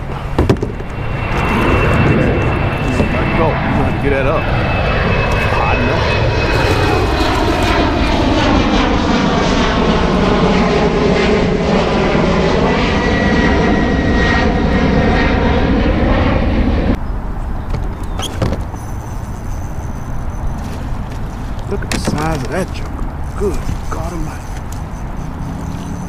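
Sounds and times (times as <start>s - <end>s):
engine running loudly: 0.0s - 17.0s, 18.7s - 26.0s.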